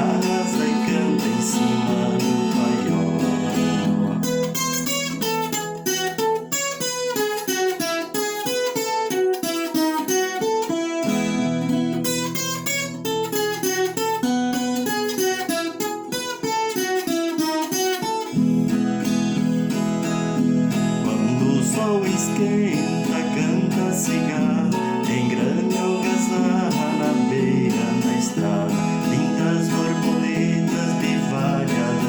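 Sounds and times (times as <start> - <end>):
low strummed accompaniment: 0.0 - 32.0
plucked guitar melody: 0.0 - 32.0.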